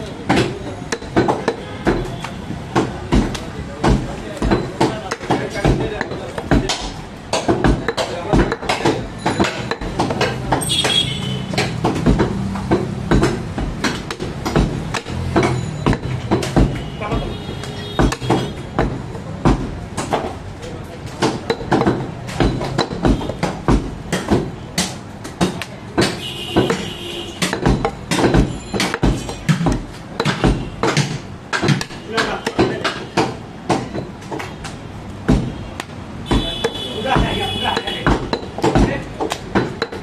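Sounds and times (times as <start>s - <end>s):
knife chopping on wooden block: 0.3s - 17.3s, 17.9s - 20.4s, 21.1s - 40.0s.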